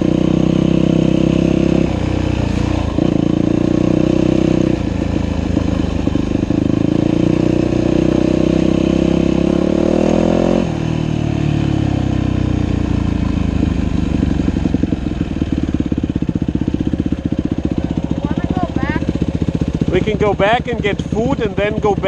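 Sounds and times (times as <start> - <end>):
dirt bike engine revving and idling: 0.0 - 22.0.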